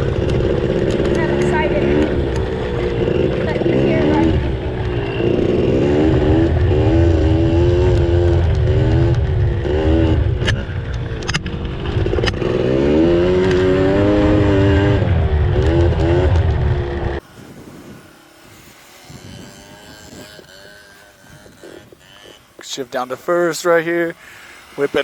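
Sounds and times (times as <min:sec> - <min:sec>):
dirt bike engine: 0:00.0 - 0:25.0.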